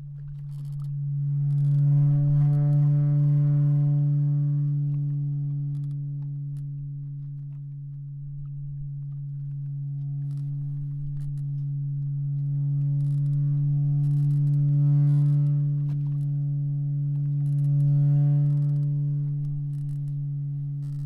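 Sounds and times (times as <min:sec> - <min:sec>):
low string drone: 0:00.0 - 0:21.0.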